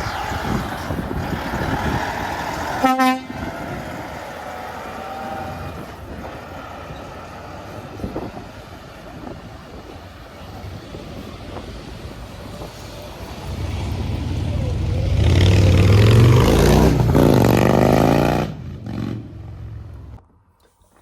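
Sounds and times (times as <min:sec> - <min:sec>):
vehicle engine passing by: 0:00.0 - 0:09.2, 0:11.5 - 0:20.2.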